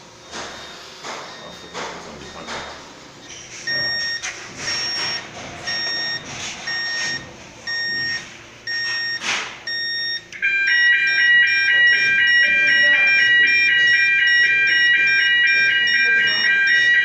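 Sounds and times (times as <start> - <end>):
alarm panel high beeps: 0.2 - 17.0.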